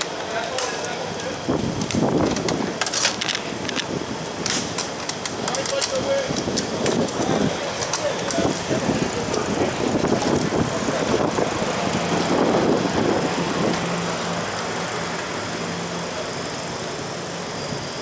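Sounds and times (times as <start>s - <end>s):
traffic rumble: 0.0s - 18.0s
vehicle engine humming: 0.0s - 18.0s.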